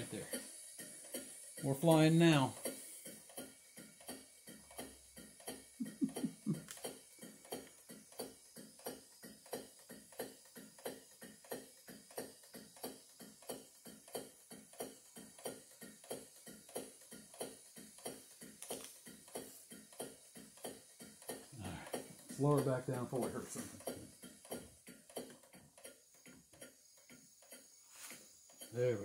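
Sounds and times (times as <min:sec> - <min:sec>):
steam engine running fast: 0:00.0 - 0:25.5, 0:26.1 - 0:29.0.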